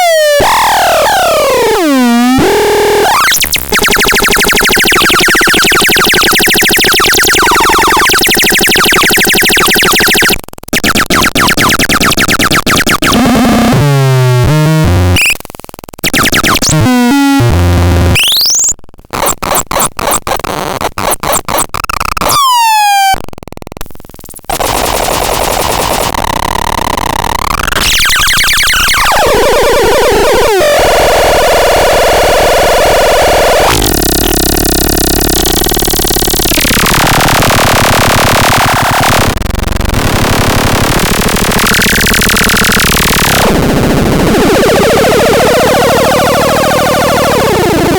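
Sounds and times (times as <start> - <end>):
harsh synthesizer tones: 0.0 - 15.4, 16.0 - 20.2, 24.5 - 47.9
stuttering synth pulses: 1.2 - 15.3, 16.0 - 20.1, 24.2 - 30.4, 33.7 - 47.9.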